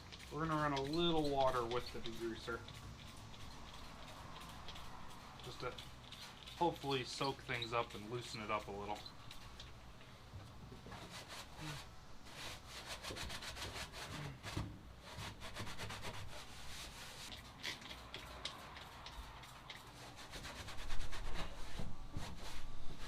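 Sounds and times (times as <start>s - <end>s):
scrubbing with rubbing strokes: 0.0s - 9.6s, 10.8s - 23.0s.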